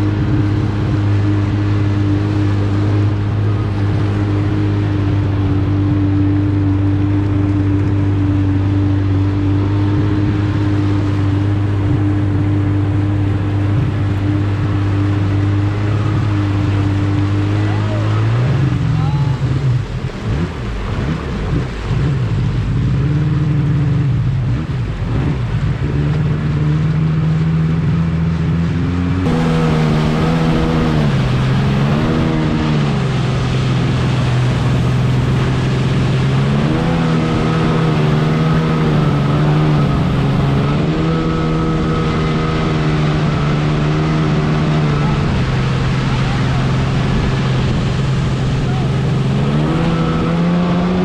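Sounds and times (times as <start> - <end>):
jet ski engine revving: 0.0 - 51.0.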